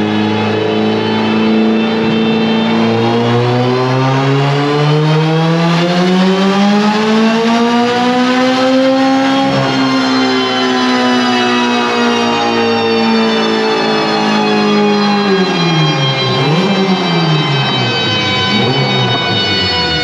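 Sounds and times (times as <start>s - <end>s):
engine revs climbing: 0.0s - 20.0s.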